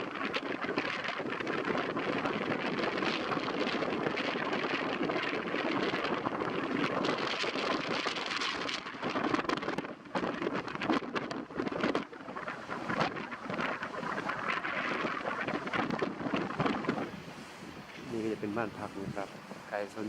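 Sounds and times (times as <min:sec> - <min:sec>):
rain: 0:00.0 - 0:18.1
wind buffeting microphone: 0:00.0 - 0:20.0.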